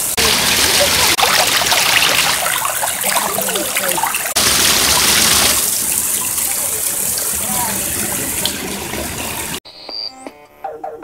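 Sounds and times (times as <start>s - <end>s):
water rushing and splashing: 0.0s - 9.6s.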